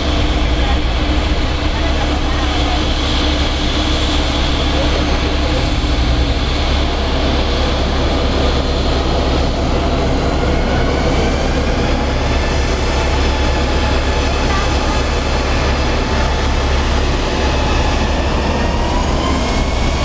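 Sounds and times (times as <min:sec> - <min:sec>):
jet engines at taxi power: 0:00.0 - 0:20.0.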